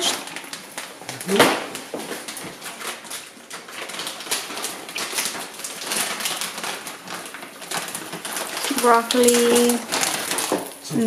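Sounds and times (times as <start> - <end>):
food crackling and crinkling: 0.0 - 11.0.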